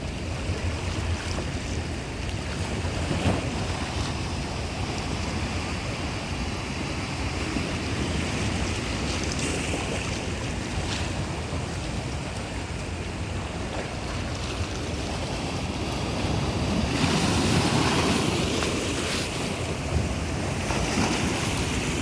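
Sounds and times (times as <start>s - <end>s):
sea waves washing: 0.0s - 22.0s.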